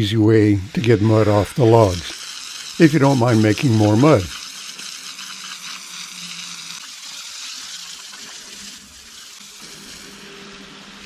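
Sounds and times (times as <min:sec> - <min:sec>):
garden hose spraying water: 0:00.0 - 0:11.0.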